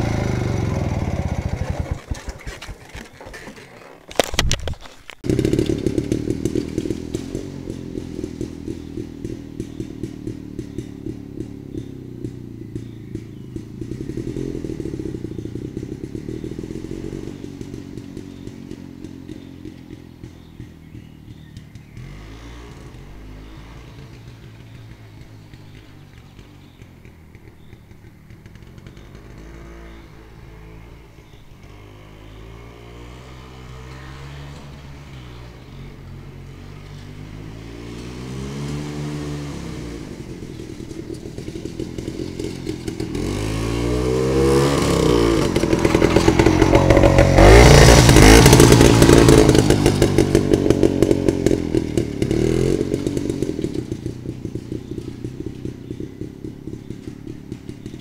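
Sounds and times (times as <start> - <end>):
motorcycle engine revving: 0.0 - 4.5, 5.1 - 58.0.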